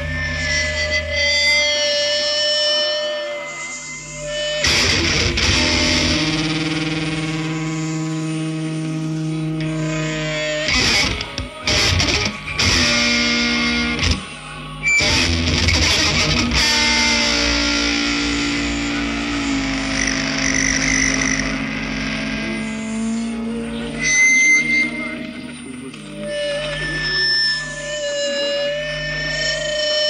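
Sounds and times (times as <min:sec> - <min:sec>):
noise rock electric guitar: 0:00.0 - 0:30.0.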